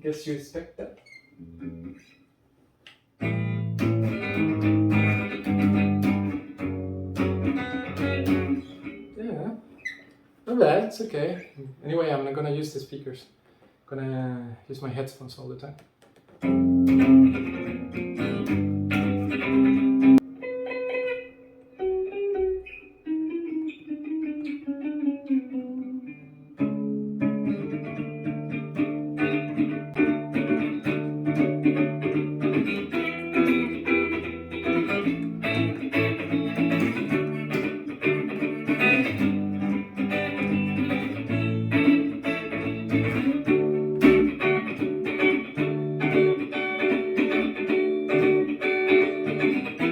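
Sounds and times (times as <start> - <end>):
electric guitar through small amp: 0.0 - 2.1, 3.2 - 10.0, 16.4 - 49.9.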